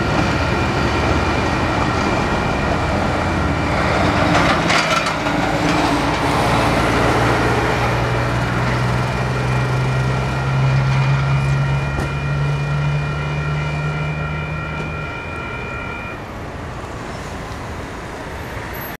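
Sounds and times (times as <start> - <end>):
level crossing alarm ringing: 0.0 - 16.6
diesel locomotive rumble: 0.0 - 19.0.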